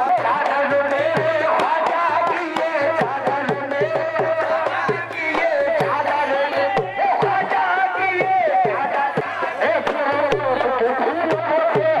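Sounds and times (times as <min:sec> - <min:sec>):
hand drum beat: 0:00.0 - 0:12.0.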